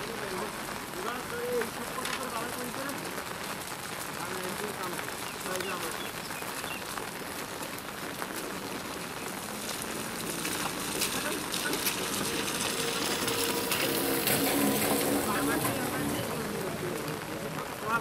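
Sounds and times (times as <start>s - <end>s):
rain on a wet road: 0.0s - 18.0s.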